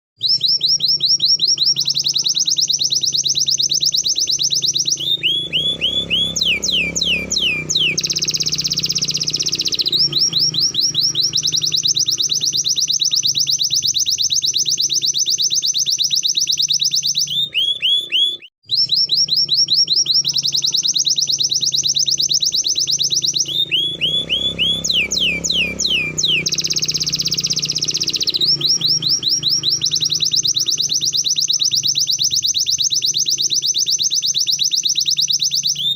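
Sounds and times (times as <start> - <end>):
canary singing fast trills: 0.2 - 35.9.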